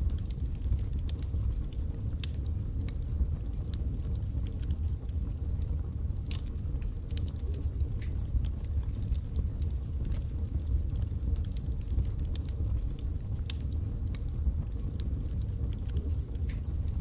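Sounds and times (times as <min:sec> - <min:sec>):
fire crackles and pops: 0:00.0 - 0:17.0
low rumble of flame: 0:00.0 - 0:17.0.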